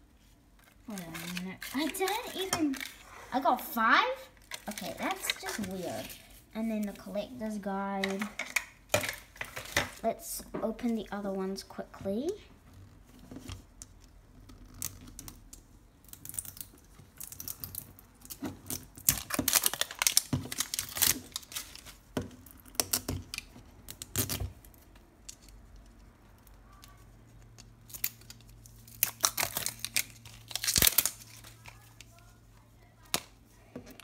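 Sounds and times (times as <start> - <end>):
plastic wrap crinkling: 0.2 - 10.1, 14.7 - 34.0.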